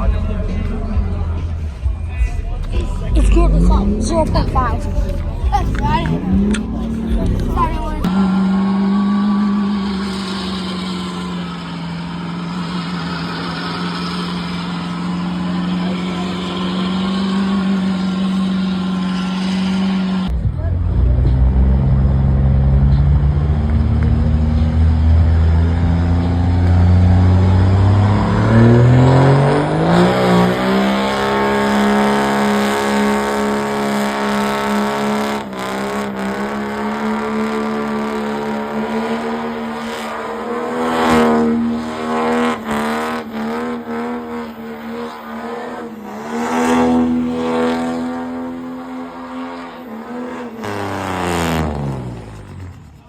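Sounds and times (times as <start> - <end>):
vehicle engine revving: 0.0 - 53.0.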